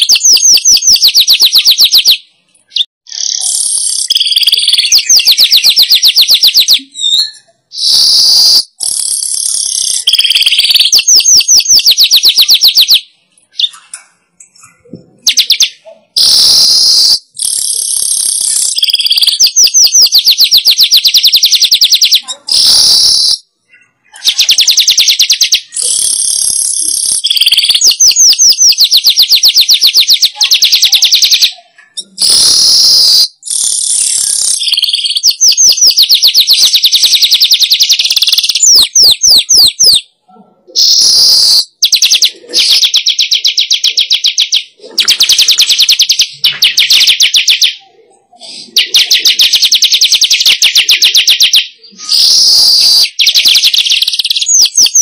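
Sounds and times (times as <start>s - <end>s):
bird buzzy chattering trills: 0.0s - 55.0s.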